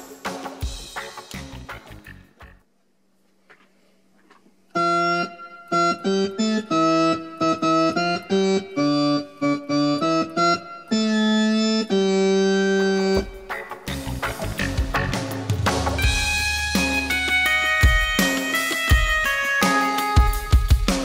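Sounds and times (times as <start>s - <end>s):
combo organ chords: 0.0s - 2.6s, 4.7s - 21.0s
faint amplifier hum: 0.7s - 19.4s.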